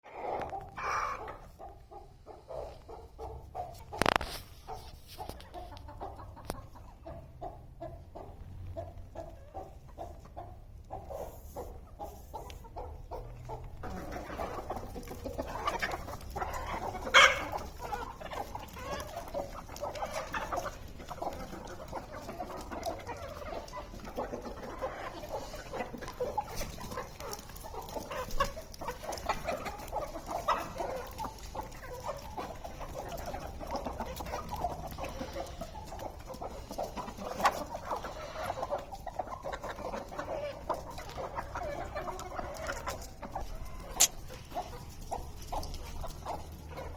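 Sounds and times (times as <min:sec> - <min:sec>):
hens clucking: 0:00.0 - 0:46.9.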